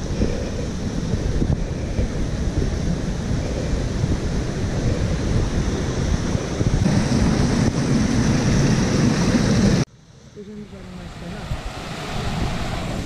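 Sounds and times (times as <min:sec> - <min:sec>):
wind buffeting microphone: 0:00.0 - 0:09.9, 0:10.5 - 0:13.0.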